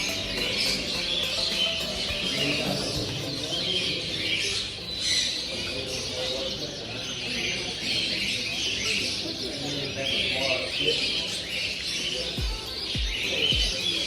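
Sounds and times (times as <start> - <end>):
low background murmur: 0.0 - 14.0
small birds chirping: 0.0 - 14.0.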